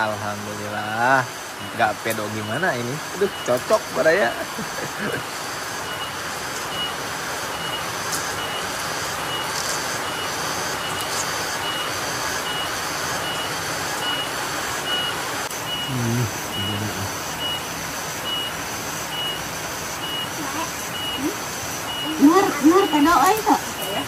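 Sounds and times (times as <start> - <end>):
cicadas pulsing: 0.0 - 24.0
heavy rain hissing: 0.0 - 24.0.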